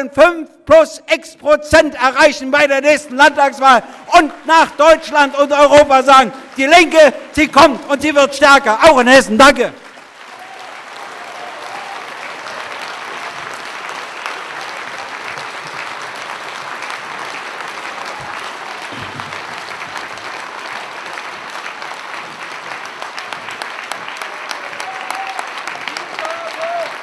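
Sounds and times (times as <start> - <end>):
audience applauding: 3.7 - 27.0.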